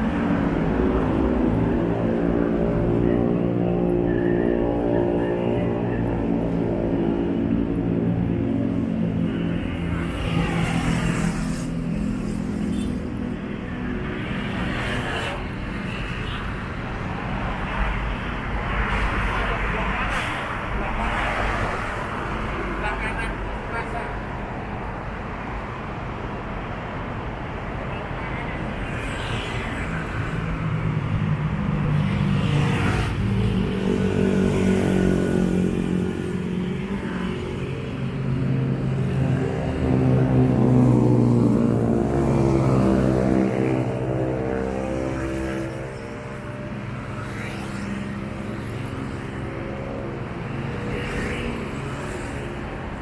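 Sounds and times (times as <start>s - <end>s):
passing cars and motorcycles: 0.0s - 53.0s.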